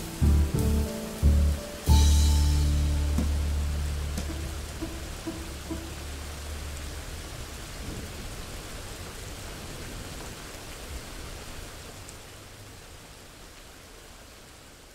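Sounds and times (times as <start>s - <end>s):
steady rain: 0.0s - 14.9s.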